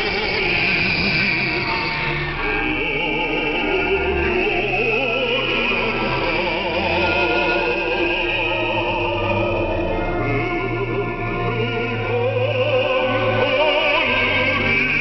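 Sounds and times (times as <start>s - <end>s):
instrumental accompaniment: 0.0s - 15.0s
person singing with vibrato: 0.0s - 15.0s.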